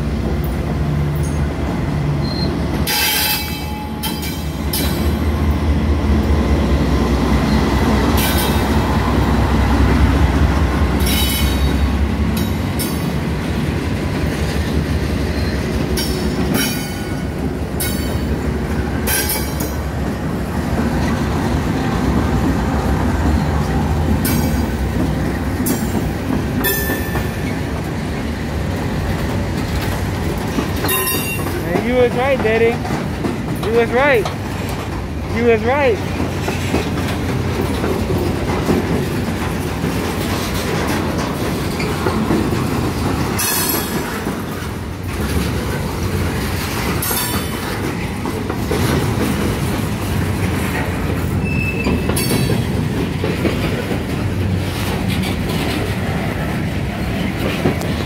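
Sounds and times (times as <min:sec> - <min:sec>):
diesel locomotive rumble: 0:00.0 - 0:58.0
train wheels on rails: 0:00.0 - 0:58.0.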